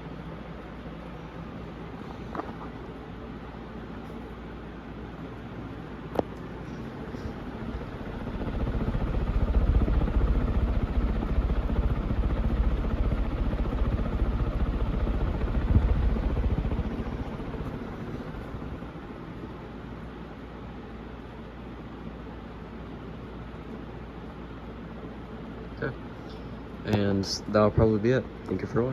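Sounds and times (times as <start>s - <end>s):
ceiling fan rushing air: 0.0s - 28.9s.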